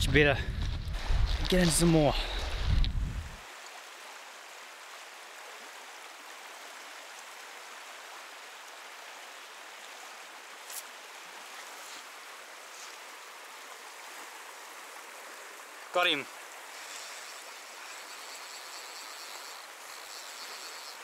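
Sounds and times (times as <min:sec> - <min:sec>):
shallow river running over stones: 0:01.1 - 0:21.0.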